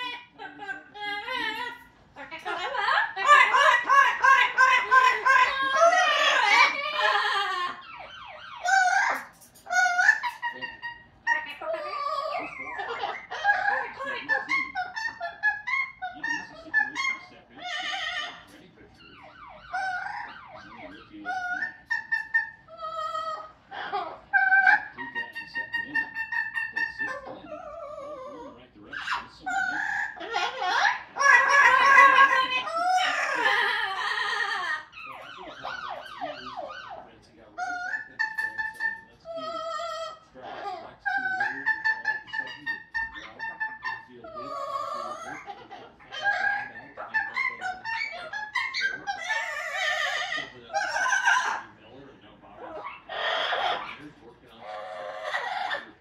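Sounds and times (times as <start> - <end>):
parrot singing: 0.0 - 56.0.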